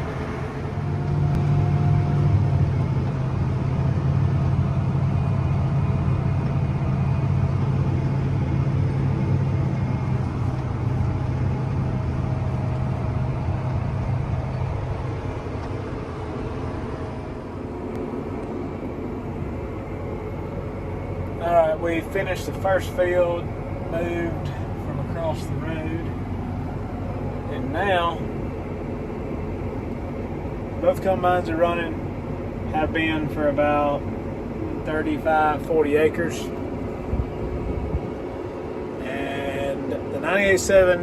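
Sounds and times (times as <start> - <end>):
combine harvester engine drone: 0.0 - 41.0.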